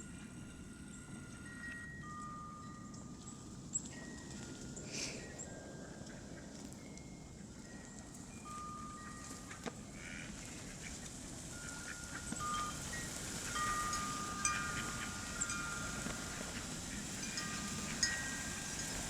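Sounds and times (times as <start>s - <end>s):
wind chimes ringing: 0.0s - 10.4s, 11.3s - 19.0s.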